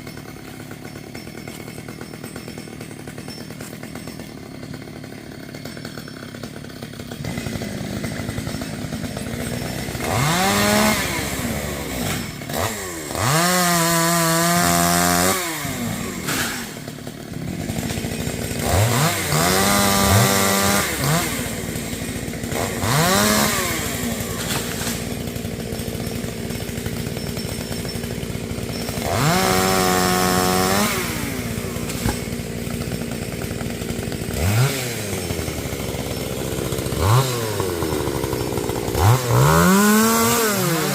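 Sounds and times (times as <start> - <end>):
chainsaw revving and idling: 0.0 - 40.9.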